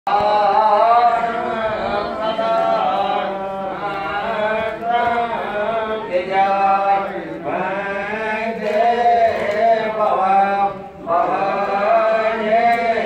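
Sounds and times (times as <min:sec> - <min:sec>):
group chanting in unison: 0:00.1 - 0:13.0.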